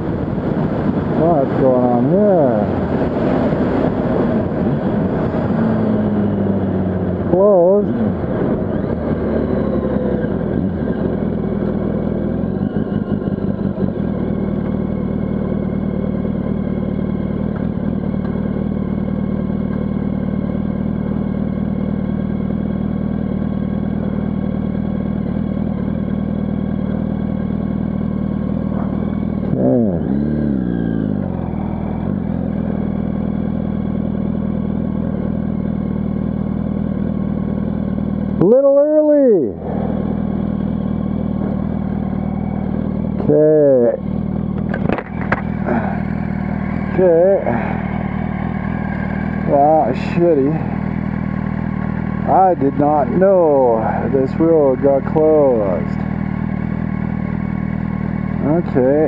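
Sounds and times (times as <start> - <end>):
motorcycle engine idling: 0.0 - 59.0
motorcycle engine revving: 0.0 - 59.0.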